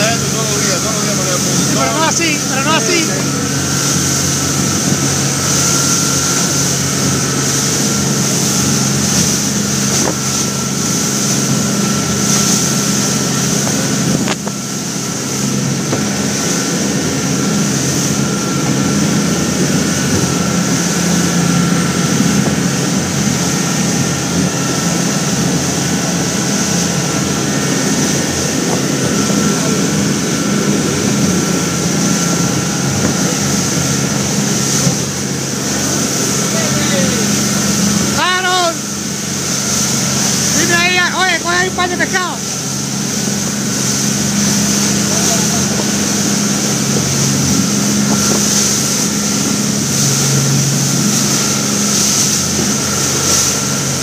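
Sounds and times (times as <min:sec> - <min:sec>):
motorboat engine drone: 0:00.0 - 0:54.0
water rushing along hull: 0:00.0 - 0:54.0
wind: 0:00.0 - 0:54.0.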